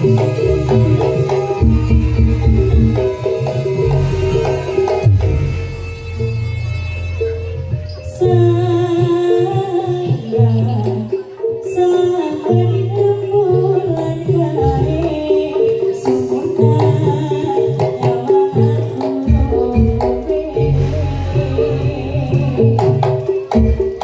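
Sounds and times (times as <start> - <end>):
drums: 0.0 - 24.0
pitched melody line: 0.0 - 24.0.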